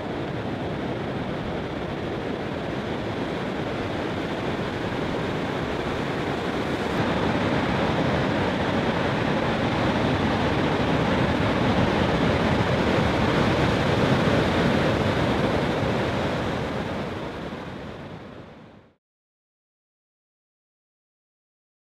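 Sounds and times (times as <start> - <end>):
ocean surf breaking: 0.1 - 18.2.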